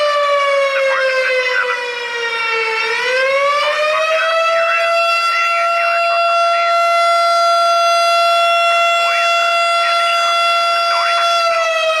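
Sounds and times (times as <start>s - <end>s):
air raid siren wailing: 0.0s - 12.0s.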